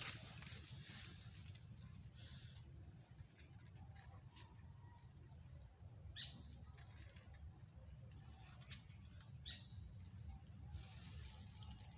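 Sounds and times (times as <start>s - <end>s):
dry leaves rustling: 0.0s - 5.0s, 6.3s - 11.9s.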